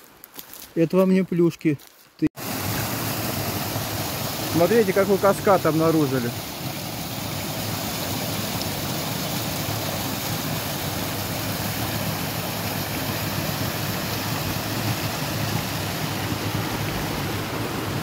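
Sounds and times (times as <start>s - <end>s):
water cascading over rocks: 2.4s - 18.0s.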